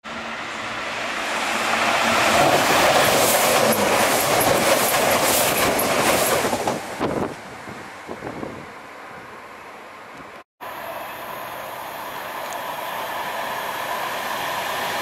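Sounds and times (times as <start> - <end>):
train passing at speed: 0.0 - 9.9, 10.6 - 15.0.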